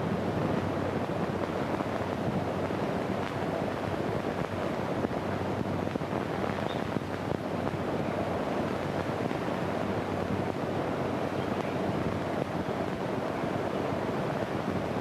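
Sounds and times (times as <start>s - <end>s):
film soundtrack hiss and crackle: 0.1s - 15.0s.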